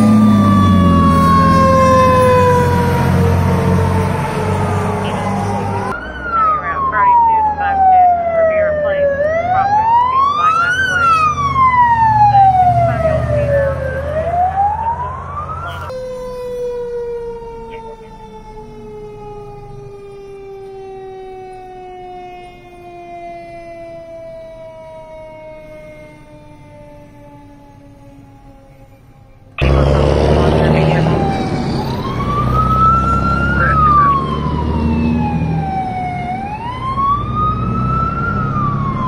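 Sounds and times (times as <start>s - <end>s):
fire truck siren wailing: 0.0s - 39.0s
truck engine rumble: 0.0s - 39.0s.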